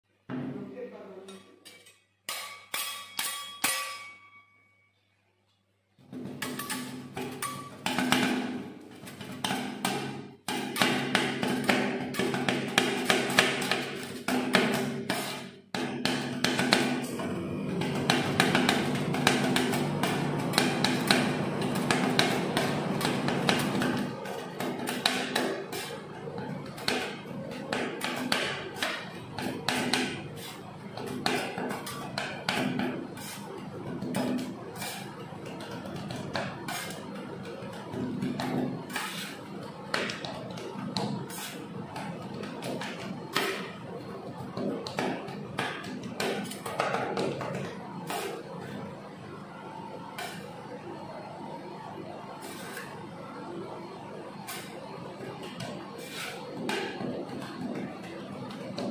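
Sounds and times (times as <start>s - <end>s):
metal spatulas tapping and scraping: 1.3s - 4.6s, 6.1s - 17.2s, 17.8s - 48.8s, 50.1s - 50.5s, 54.5s - 58.9s.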